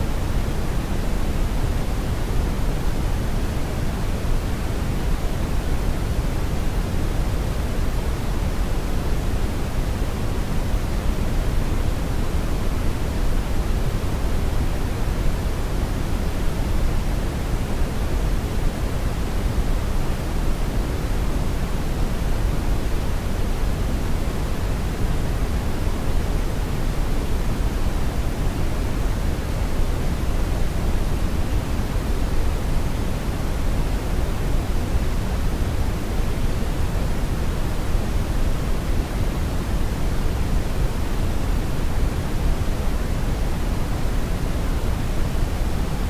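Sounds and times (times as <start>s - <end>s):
brown noise rumbling hiss: 0.0s - 46.0s.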